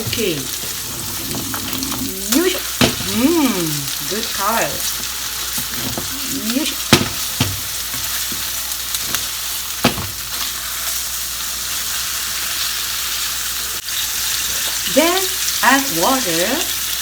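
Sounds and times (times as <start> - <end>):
patties sizzling in a frying pan: 0.0 - 17.0.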